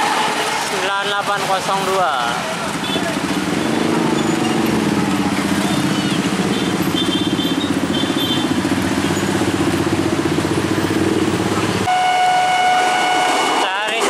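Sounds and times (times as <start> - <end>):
motorcycle and scooter engines: 0.0 - 14.0.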